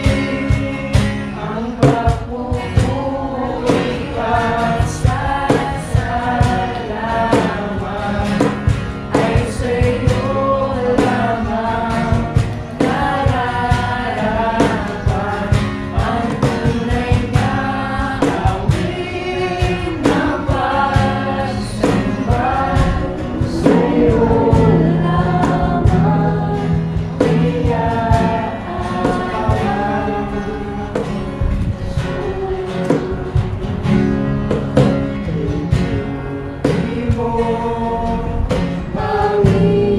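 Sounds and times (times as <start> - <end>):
group singing gospel music: 0.0 - 39.9.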